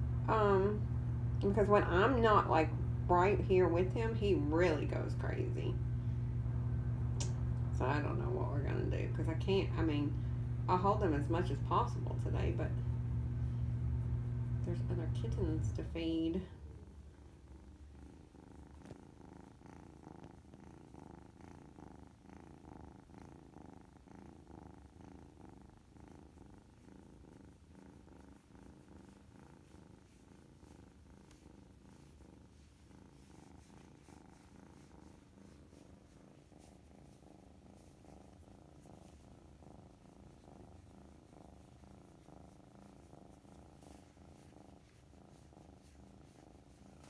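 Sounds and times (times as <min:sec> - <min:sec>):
kitten purring: 0:00.0 - 0:47.0.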